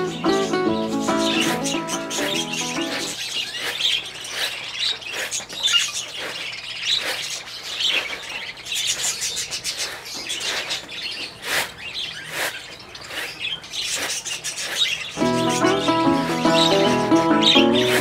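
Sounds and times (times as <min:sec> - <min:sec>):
lovebirds chirping and chattering: 0:00.0 - 0:18.0.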